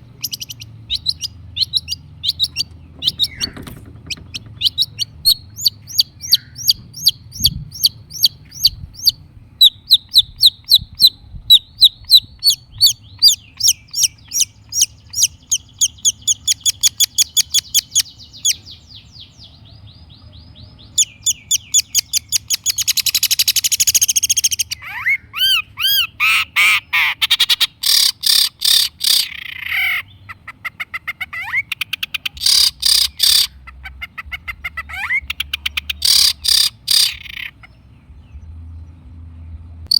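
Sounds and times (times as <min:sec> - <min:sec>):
bird harsh rasping chatter: 0:00.0 - 0:09.2, 0:11.9 - 0:18.6, 0:21.0 - 0:37.8.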